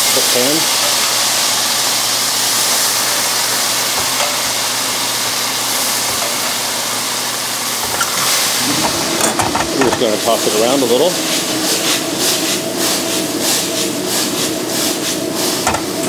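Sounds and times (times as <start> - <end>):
spaghetti sizzling in a pan: 0.0 - 16.0.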